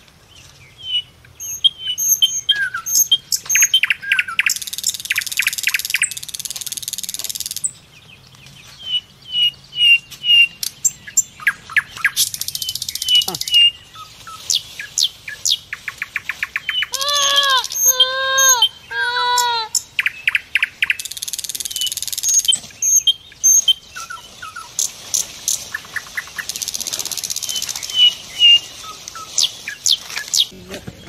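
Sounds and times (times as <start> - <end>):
birds chirping and calling: 0.2 - 31.0.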